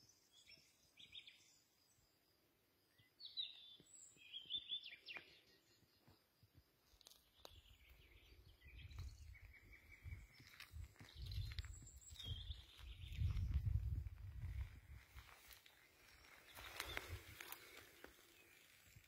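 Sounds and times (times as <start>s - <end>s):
wild birds singing: 0.0s - 19.0s.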